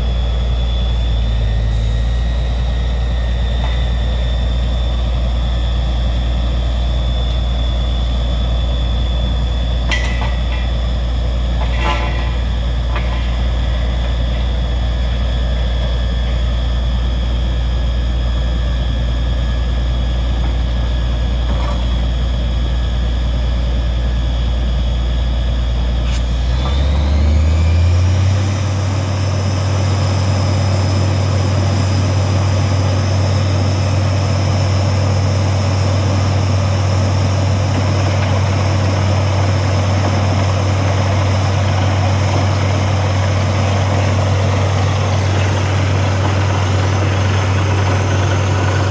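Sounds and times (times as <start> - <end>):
drilling rig engine droning: 0.0 - 48.9.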